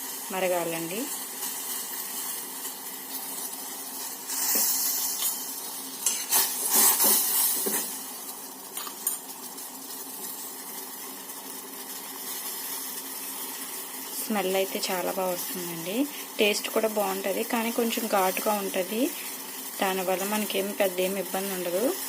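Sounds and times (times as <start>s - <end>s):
pot boiling with bubbling hiss: 0.0s - 22.0s.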